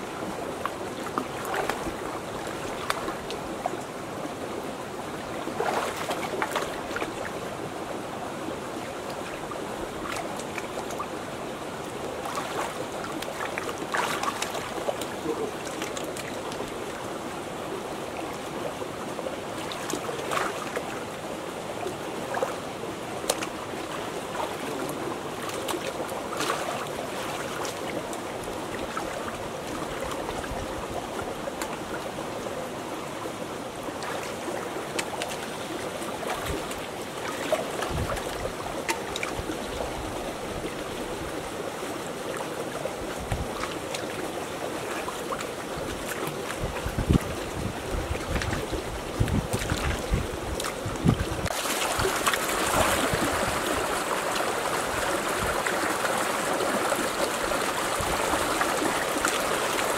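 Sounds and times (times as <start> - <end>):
stream water running: 0.0 - 59.9
water splashing and sloshing: 0.0 - 59.9.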